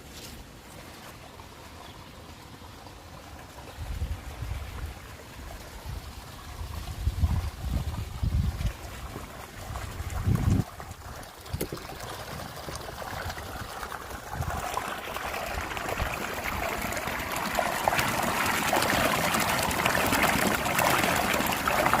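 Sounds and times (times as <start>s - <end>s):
water trickling: 0.6s - 22.0s.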